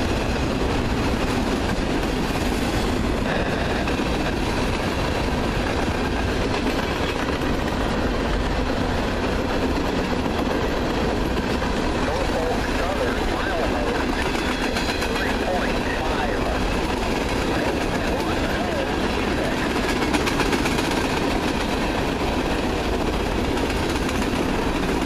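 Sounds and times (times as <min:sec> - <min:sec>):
freight trains rumbling past: 0:00.0 - 0:25.0.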